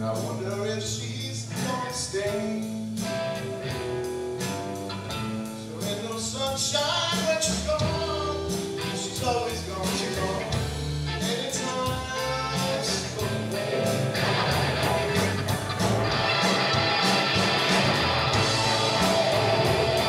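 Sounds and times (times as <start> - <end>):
bass guitar: 0.0 - 20.0
drum kit: 0.0 - 20.0
electric guitars: 0.0 - 20.0.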